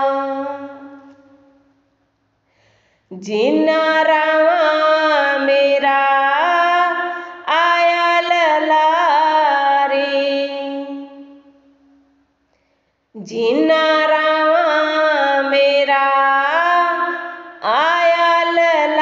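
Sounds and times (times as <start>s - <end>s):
woman singing devotional song: 0.0s - 1.8s, 3.1s - 12.1s, 13.1s - 19.0s.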